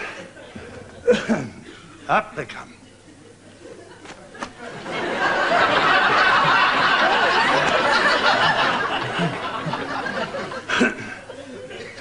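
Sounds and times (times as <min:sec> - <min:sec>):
audience laughing: 0:00.0 - 0:01.6, 0:03.1 - 0:12.0.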